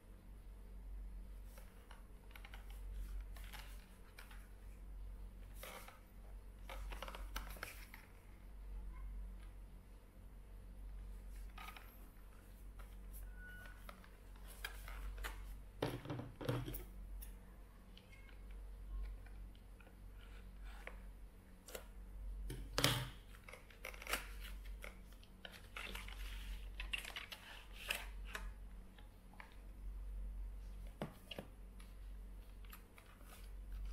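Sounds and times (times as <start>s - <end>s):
steady low hum: 0.0s - 15.8s, 16.6s - 33.9s.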